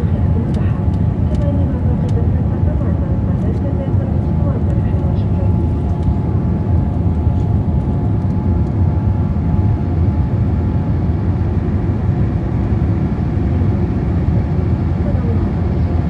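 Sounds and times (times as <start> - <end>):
jet engines and rushing air: 0.0 - 16.0.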